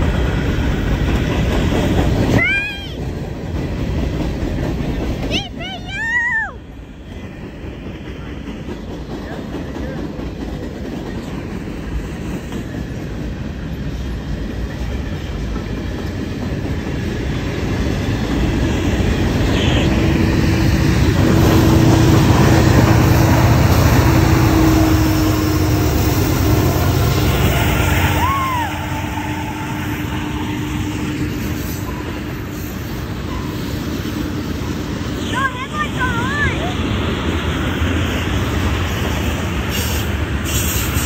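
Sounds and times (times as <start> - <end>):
freight train cars rolling past: 0.0 - 41.0
steel wheels clattering on rails: 0.0 - 41.0.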